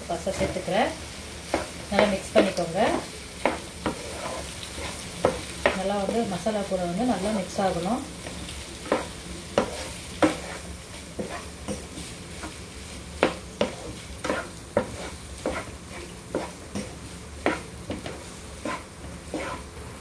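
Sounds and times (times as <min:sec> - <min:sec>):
light sizzle: 0:00.0 - 0:20.0
spatula scraping a pan: 0:00.3 - 0:06.2, 0:08.2 - 0:19.8.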